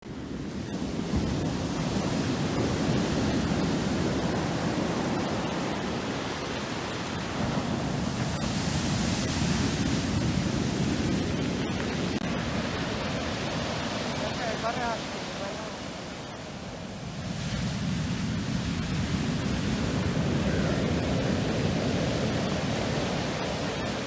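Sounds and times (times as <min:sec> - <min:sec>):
waves breaking on shore: 0:00.1 - 0:24.0.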